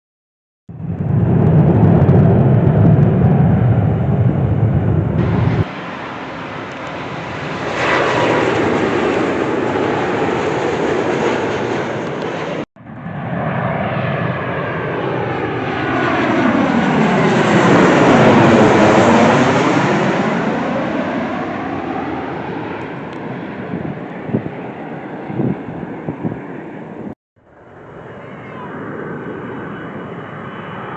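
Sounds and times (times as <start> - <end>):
jet engines rumbling: 0.7 - 30.9
plane passing overhead whoosh: 0.7 - 30.9.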